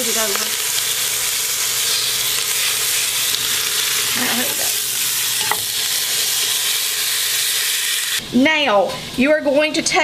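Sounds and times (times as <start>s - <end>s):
meat sizzling in oil: 0.0s - 8.3s.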